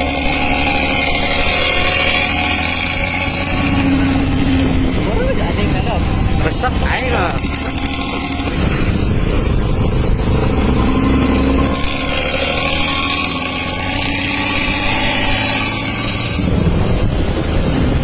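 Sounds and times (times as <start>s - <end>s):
bus engine running loudly: 0.0s - 18.0s.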